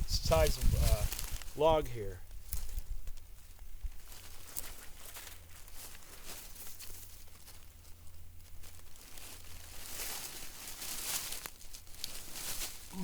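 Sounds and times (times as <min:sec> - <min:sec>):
rustling and crunching dry leaves: 0:00.0 - 0:13.0.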